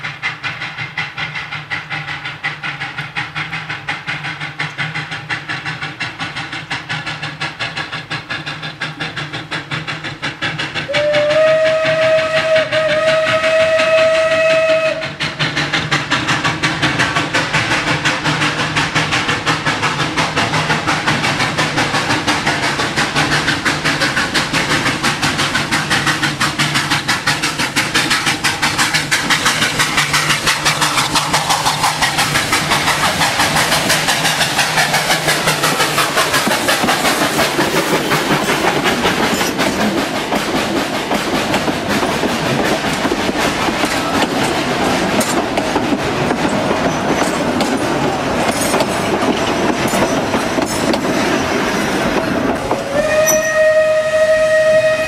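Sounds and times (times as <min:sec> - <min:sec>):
steam hissing: 0:00.0 - 0:55.0
steam locomotive chuffing: 0:00.0 - 0:55.0
wheels clacking over rails: 0:00.0 - 0:55.0.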